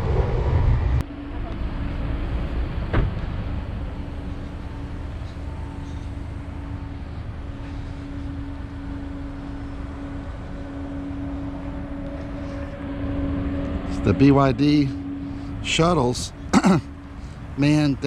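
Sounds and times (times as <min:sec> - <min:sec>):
constant hum: 0:00.0 - 0:18.0
low vehicle rumble: 0:00.0 - 0:18.0.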